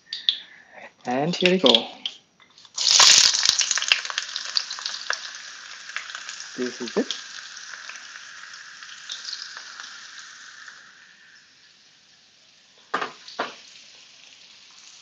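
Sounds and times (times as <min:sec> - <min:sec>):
onions sizzling in hot oil: 0:02.7 - 0:15.0.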